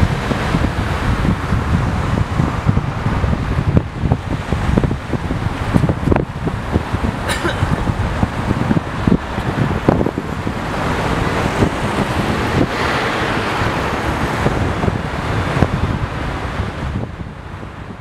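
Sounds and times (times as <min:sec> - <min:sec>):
road and traffic noise: 0:00.0 - 0:18.0
wind buffeting microphone: 0:00.0 - 0:18.0.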